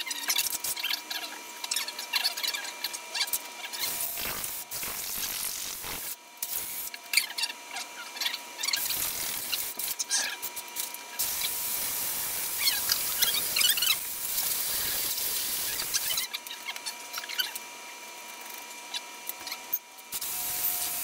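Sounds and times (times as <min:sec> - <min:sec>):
battery drill cutting metal: 0:00.0 - 0:07.4, 0:08.3 - 0:16.3, 0:19.4 - 0:21.0.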